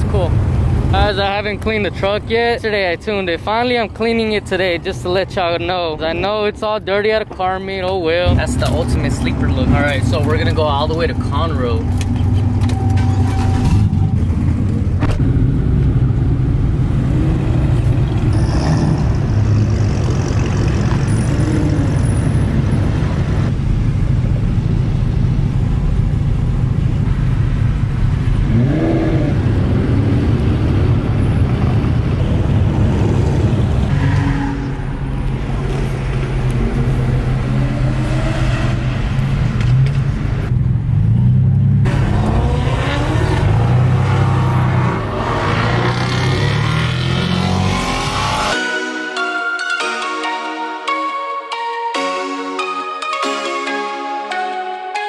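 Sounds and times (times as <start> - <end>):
truck engine and exhaust droning: 0.0 - 48.6.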